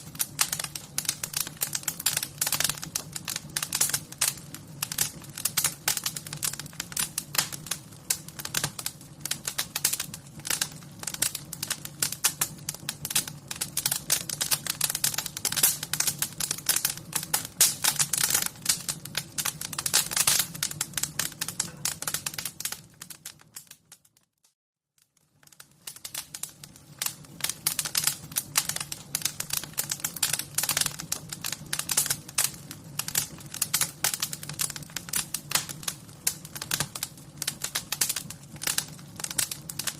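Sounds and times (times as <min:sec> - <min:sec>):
wood fire crackling: 0:00.0 - 0:24.4, 0:25.0 - 0:39.9.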